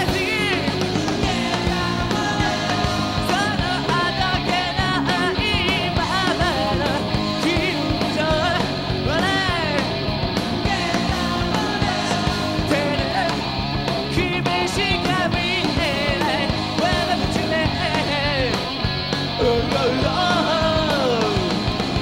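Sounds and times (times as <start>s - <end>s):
drums: 0.0s - 22.0s
electric guitar: 0.0s - 22.0s
vocalist singing: 0.0s - 22.0s.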